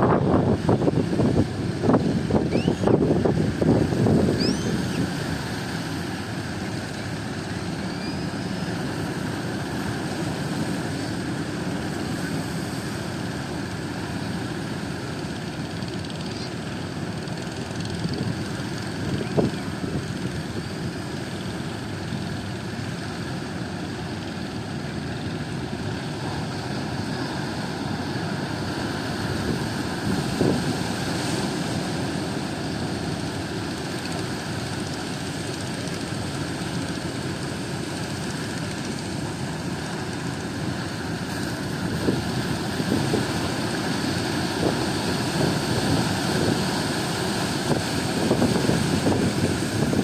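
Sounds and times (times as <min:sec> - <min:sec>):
boat engines droning: 0:00.0 - 0:50.0.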